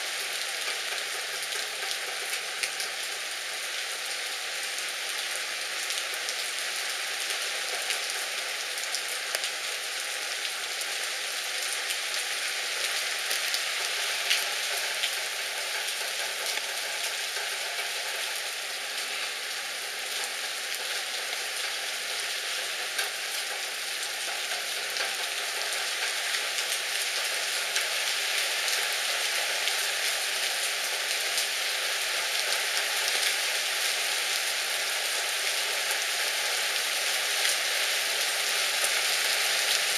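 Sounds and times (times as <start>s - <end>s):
heavy rain on street and cars: 0.0s - 39.9s.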